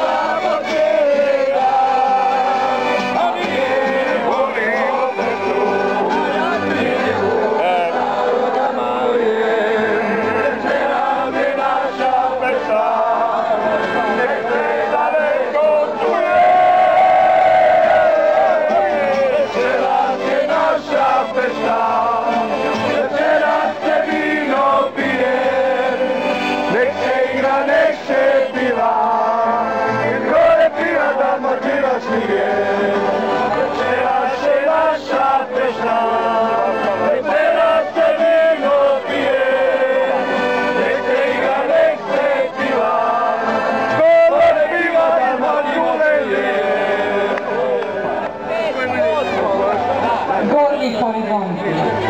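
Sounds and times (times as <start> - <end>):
men singing in unison: 0.0 - 50.4
accordion: 0.0 - 52.0
guitar: 0.0 - 52.0.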